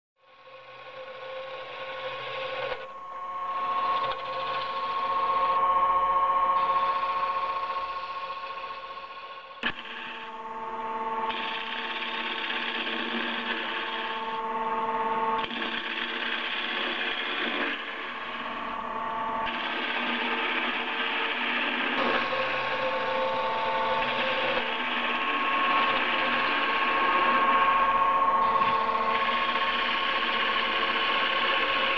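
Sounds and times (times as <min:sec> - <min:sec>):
wood lathe whine: 0:00.4 - 0:31.9.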